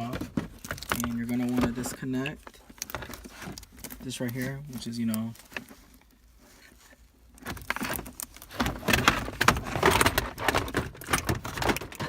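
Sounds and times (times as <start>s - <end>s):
plastic rattling: 0.0s - 6.0s, 7.3s - 12.0s.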